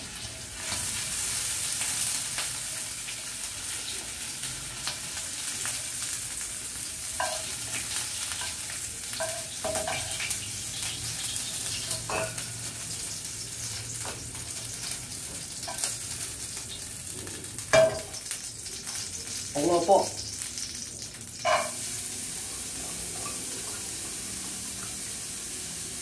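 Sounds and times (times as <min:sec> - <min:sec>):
shrimp sizzling in oil: 0:00.0 - 0:26.0.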